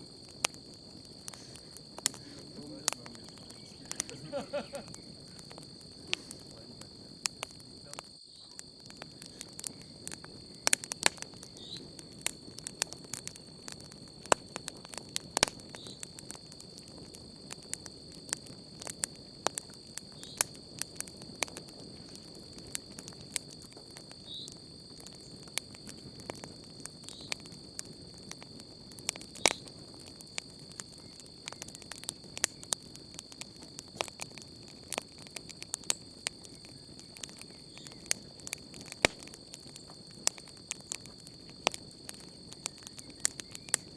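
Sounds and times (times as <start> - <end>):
campfire crackling and popping: 0.0 - 43.9
cricket trill: 0.0 - 43.9.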